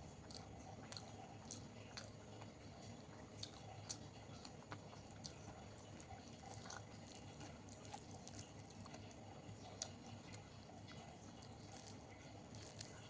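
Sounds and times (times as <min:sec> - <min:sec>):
low steady hum: 0:00.0 - 0:13.0
wet mouth clicks chewing: 0:00.3 - 0:13.0.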